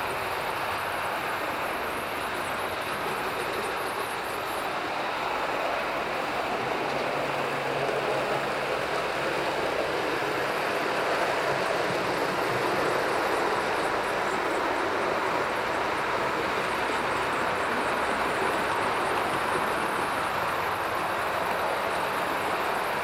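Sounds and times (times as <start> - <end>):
model train wheels rumbling: 0.0 - 23.0.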